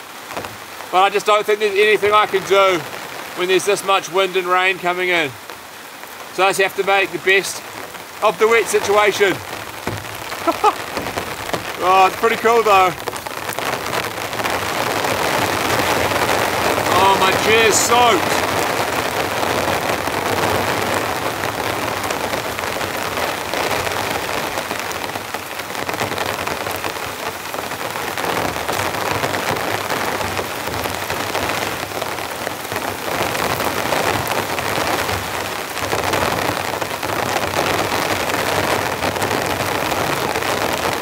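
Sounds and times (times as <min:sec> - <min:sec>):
heavy rain on a tarp: 0:00.0 - 0:41.0.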